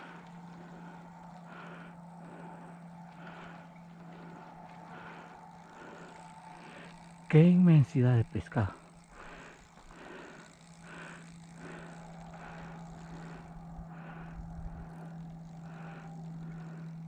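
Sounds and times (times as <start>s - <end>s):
fishing reel whirring: 0.0s - 17.0s
low engine-like hum: 0.0s - 17.0s.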